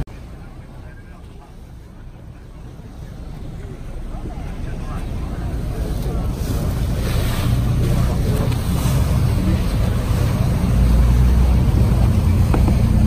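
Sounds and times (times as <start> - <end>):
boat engine rumble: 0.0 - 13.0
rushing water: 0.0 - 13.0.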